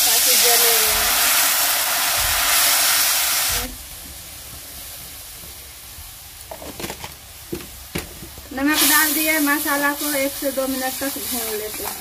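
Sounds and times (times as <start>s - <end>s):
water sizzling in hot oil: 0.0s - 12.0s.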